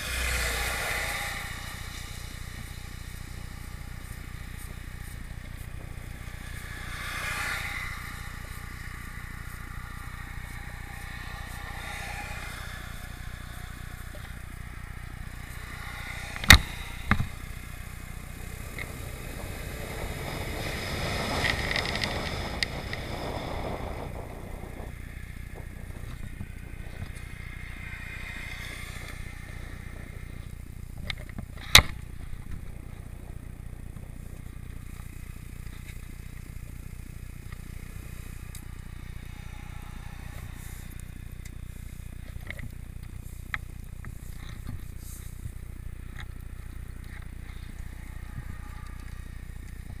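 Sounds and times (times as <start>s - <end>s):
motorcycle engine idling: 0.0s - 50.0s
motorcycle wind noise: 0.0s - 50.0s
faint ticks: 0.4s - 50.0s.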